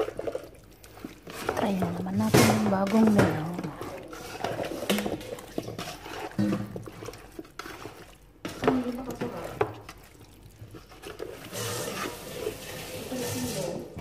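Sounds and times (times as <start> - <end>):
wet squelching of raw chicken: 0.0 - 13.8.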